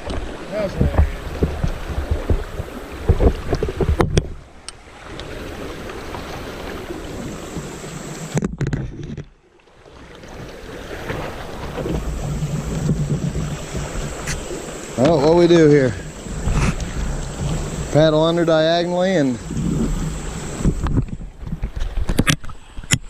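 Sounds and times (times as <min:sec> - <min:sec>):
wind buffeting microphone: 0:00.0 - 0:08.8, 0:10.3 - 0:23.0
rushing water: 0:00.0 - 0:23.0.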